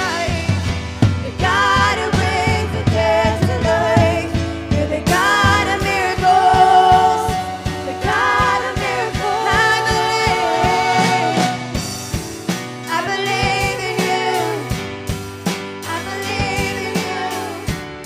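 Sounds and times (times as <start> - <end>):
woman singing with vibrato: 0.0 - 11.9, 12.8 - 14.9, 15.8 - 17.9
band playing steady beat: 0.0 - 18.0.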